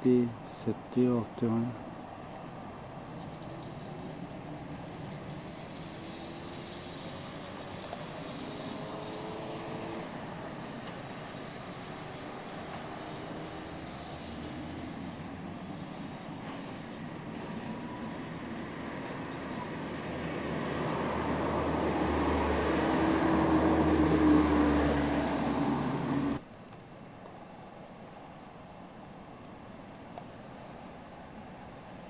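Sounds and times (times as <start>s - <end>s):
light-rail car passing: 0.0s - 26.4s, 28.2s - 32.0s.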